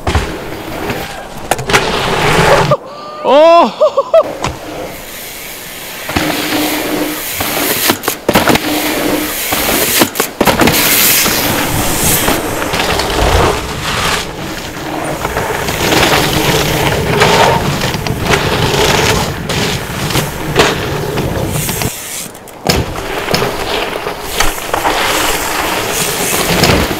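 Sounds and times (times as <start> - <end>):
bike thuds and rattles: 0.0 - 2.2, 4.4 - 4.9, 6.0 - 26.9
bike tyres skidding on dirt: 0.0 - 2.9, 3.9 - 26.9.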